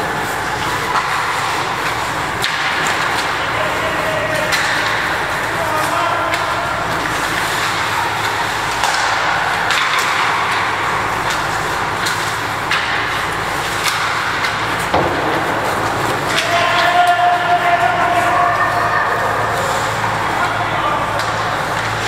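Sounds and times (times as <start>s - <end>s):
hockey sticks and puck clacking: 0.0s - 22.0s.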